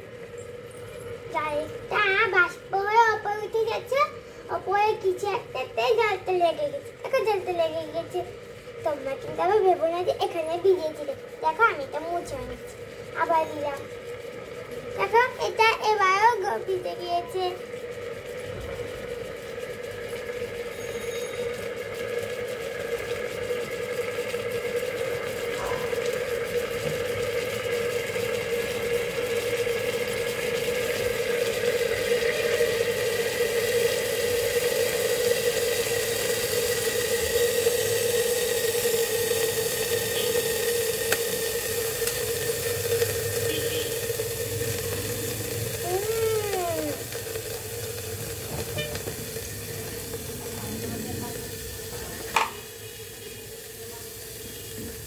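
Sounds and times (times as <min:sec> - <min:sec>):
electric kettle heating water: 0:00.0 - 0:55.0.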